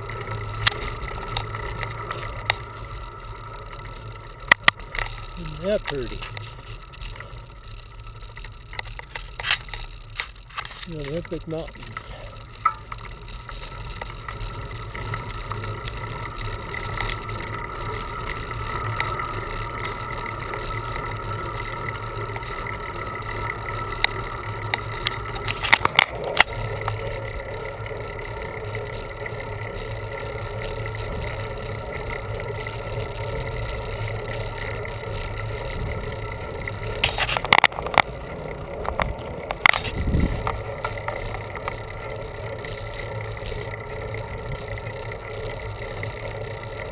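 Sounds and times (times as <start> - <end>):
bicycle tyres rumbling: 0.0 - 46.9
faint steady hum: 0.0 - 46.9
wind: 0.0 - 46.9
rattling clicks: 3.7 - 20.0, 23.9 - 46.9.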